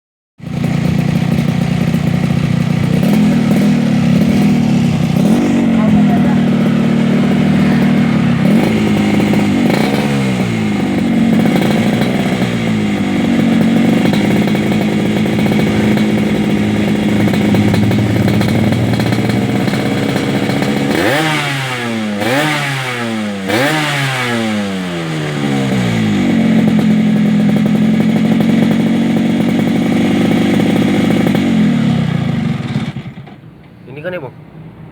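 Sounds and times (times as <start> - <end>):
two-stroke motorcycle idling and revving: 0.4 - 33.6.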